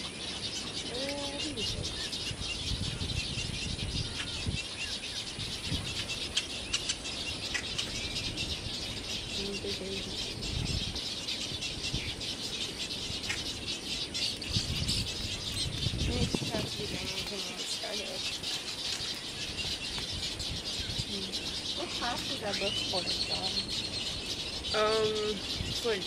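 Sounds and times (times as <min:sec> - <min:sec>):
many birds chirping: 0:00.0 - 0:26.0
low rumbles: 0:00.8 - 0:26.0.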